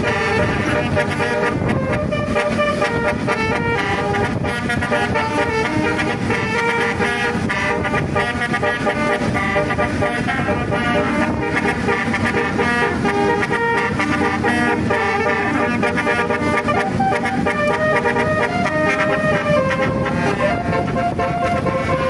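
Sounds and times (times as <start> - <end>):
multi-tone bus horn melody: 0.0 - 22.0.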